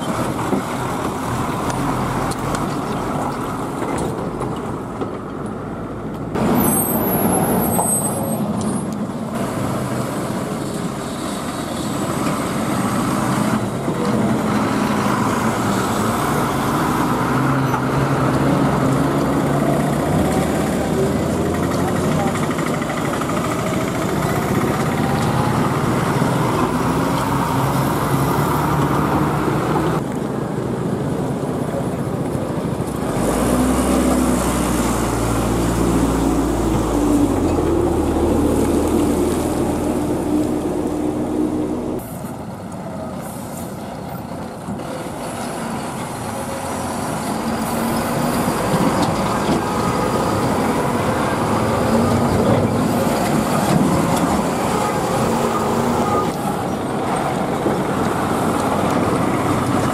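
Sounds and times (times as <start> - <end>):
diesel trucks driving past: 0.0 - 59.9
deep truck engine rumble: 8.4 - 59.9.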